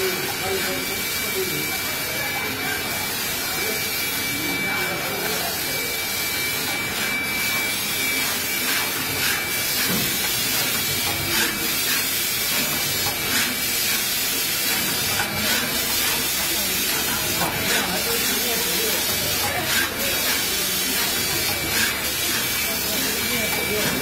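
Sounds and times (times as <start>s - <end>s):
factory machinery hiss: 0.0s - 24.0s.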